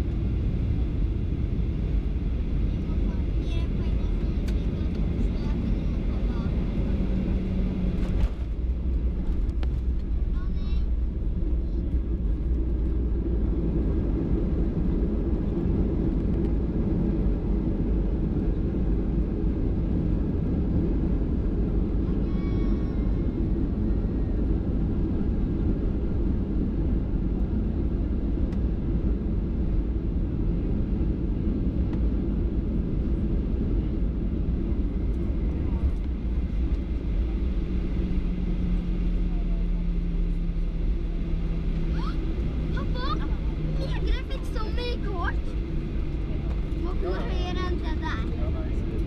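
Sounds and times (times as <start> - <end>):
airplane cabin rumble on runway: 0.0 - 49.0.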